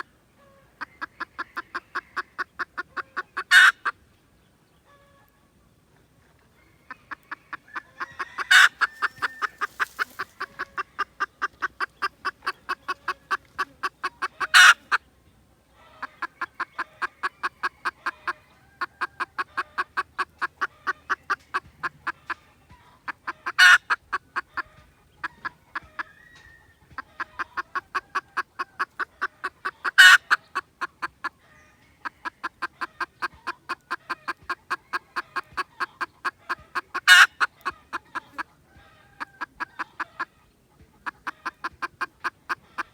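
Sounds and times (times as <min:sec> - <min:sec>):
junglefowl clucking: 0:00.0 - 0:04.0, 0:06.2 - 0:42.9.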